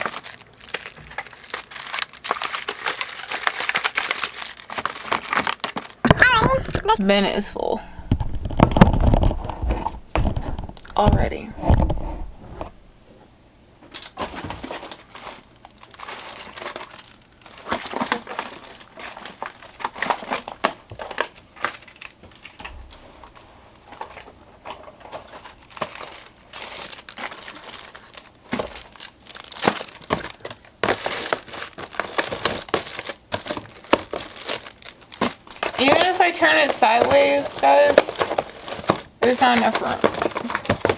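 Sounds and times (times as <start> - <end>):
packaging crinkling and rustling: 0.0 - 13.2, 13.8 - 40.9.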